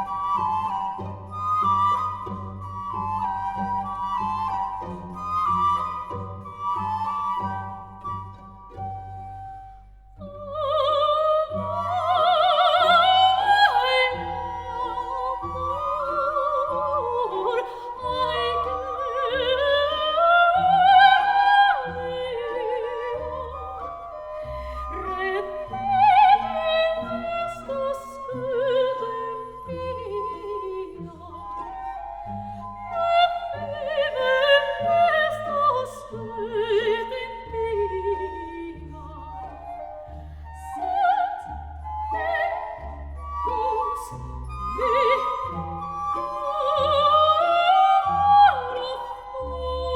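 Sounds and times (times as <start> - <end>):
operatic singing with classical accompaniment: 0.0 - 49.9.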